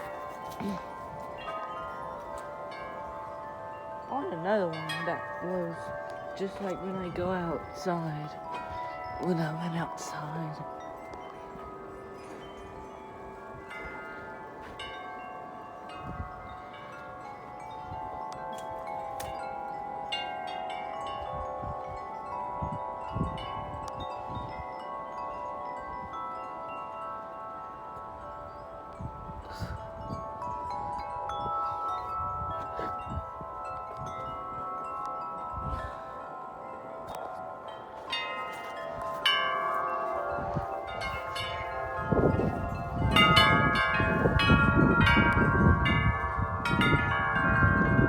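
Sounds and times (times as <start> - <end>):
wind buffeting microphone: 0.0 - 20.1, 20.9 - 27.1, 28.0 - 48.0
tubular wind chimes ringing: 0.0 - 48.0.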